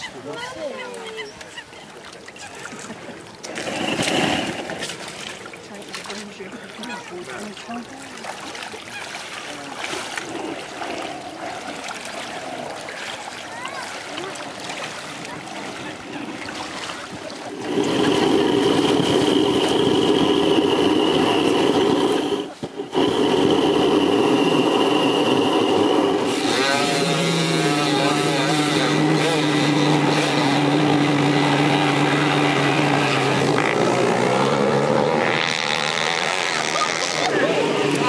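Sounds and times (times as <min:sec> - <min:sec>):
model boat engine droning: 0:00.0 - 0:38.0.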